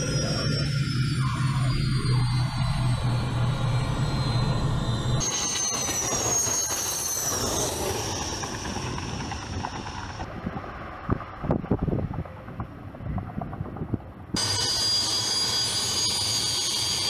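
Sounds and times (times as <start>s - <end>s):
jet engine drone in cockpit: 0.0s - 17.0s
jet whine rolling down runway: 0.0s - 17.0s.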